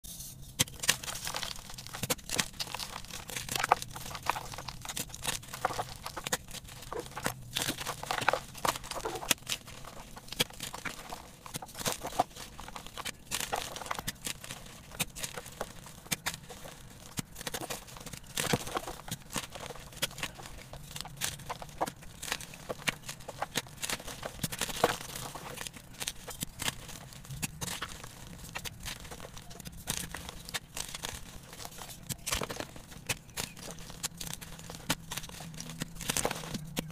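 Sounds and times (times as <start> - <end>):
chalk crunching in hands: 0.1 - 36.9.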